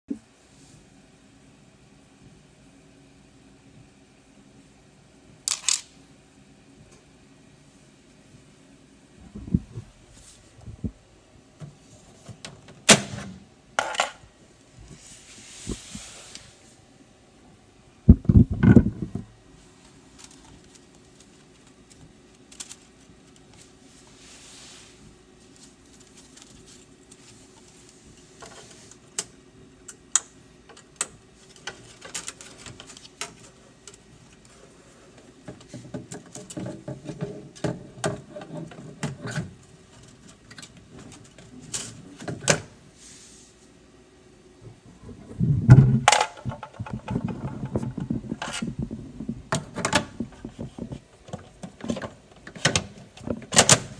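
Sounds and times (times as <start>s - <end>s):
faint steady hum: 0.1s - 53.9s.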